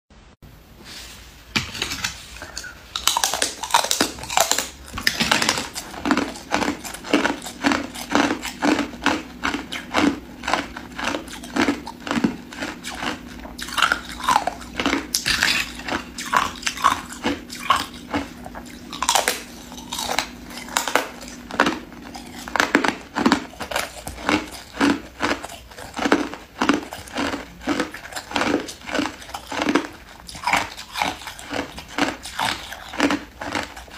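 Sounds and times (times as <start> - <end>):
person chewing hard ice: 2.4 - 33.9.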